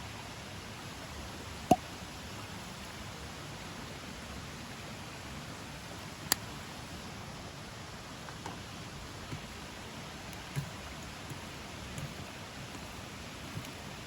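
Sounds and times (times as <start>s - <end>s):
wood fire hissing: 0.0s - 14.0s.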